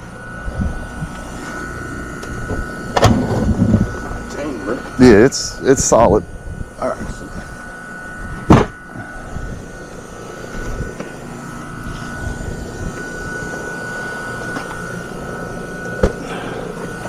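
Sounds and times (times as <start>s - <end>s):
machine hum with high whine: 0.0s - 17.0s.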